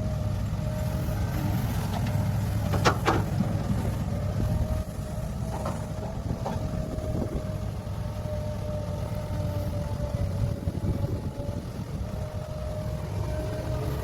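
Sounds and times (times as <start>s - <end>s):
heavy diesel machinery drone: 0.0s - 14.0s.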